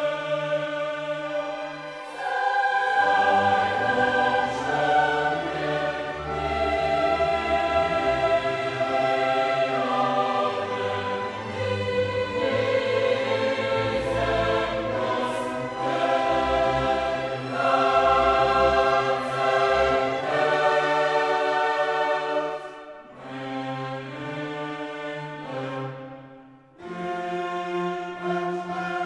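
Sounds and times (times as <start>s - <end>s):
choir singing held chords: 0.0s - 27.5s
orchestra playing: 1.2s - 29.0s.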